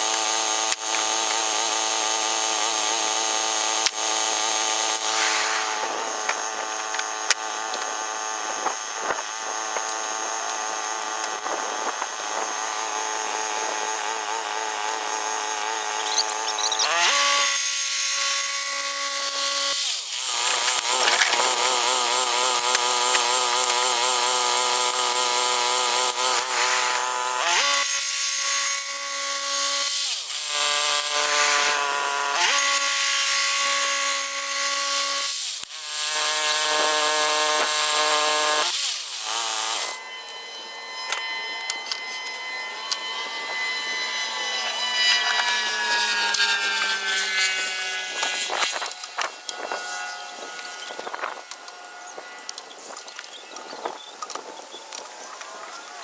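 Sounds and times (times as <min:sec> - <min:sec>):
bandsaw sawmill engine cutting log: 0:00.0 - 0:56.0.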